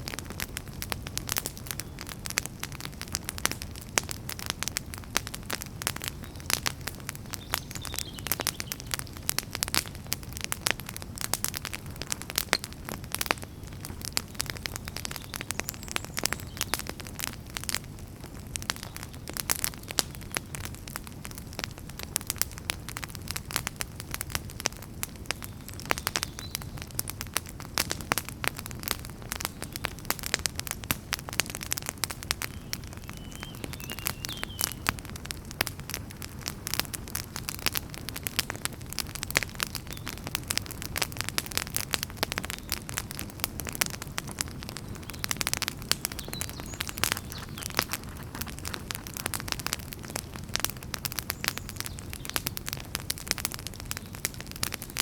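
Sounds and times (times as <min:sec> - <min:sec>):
fire crackling in a fireplace: 0:00.0 - 0:55.0.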